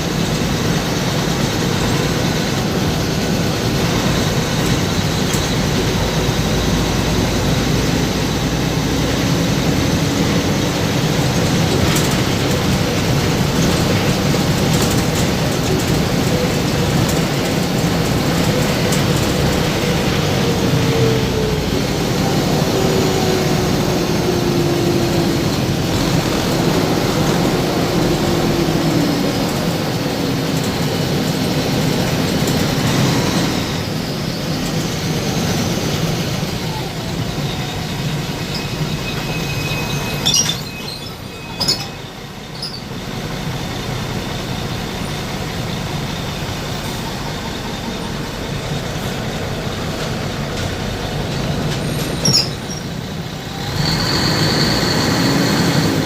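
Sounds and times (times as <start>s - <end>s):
moving vehicle rumble: 0.0s - 56.0s.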